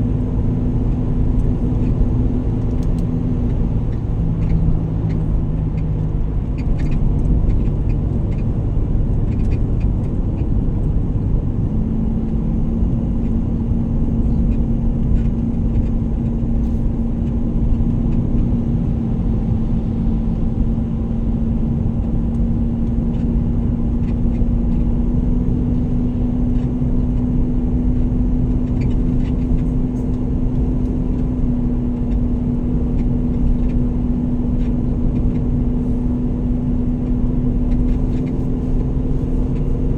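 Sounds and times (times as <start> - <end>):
road noise rumbling: 0.0 - 39.9
vehicle engine hum: 0.0 - 39.9.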